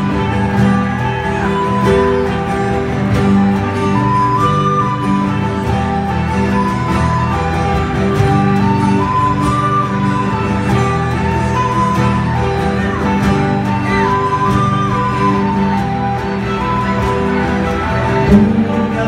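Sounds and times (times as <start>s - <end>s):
fiddle playing a melody: 0.0s - 19.0s
instrumental folk-pop music: 0.0s - 19.0s
strummed acoustic guitar: 0.0s - 19.0s.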